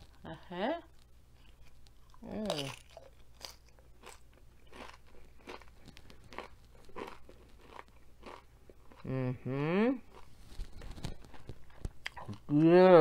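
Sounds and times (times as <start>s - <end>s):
person chewing crunchy chips: 1.4s - 12.7s.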